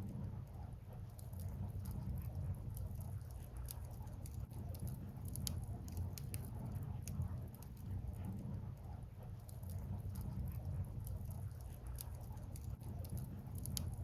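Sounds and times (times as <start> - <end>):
steady low rumble: 0.0 - 14.0
wood fire crackling and popping: 1.1 - 14.0.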